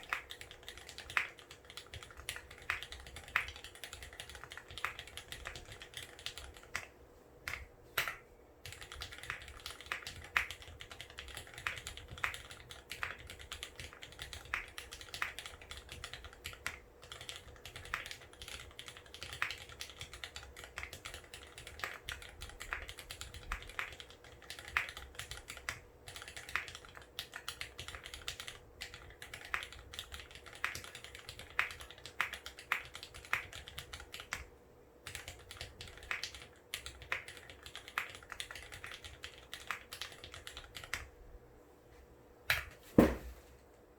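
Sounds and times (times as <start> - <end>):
mechanical keyboard typing: 0.0 - 6.9, 7.5 - 41.1.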